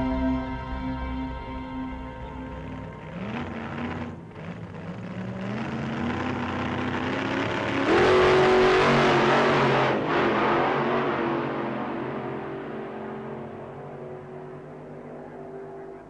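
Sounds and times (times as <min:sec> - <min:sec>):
car engine revving hard: 0:02.2 - 0:15.8.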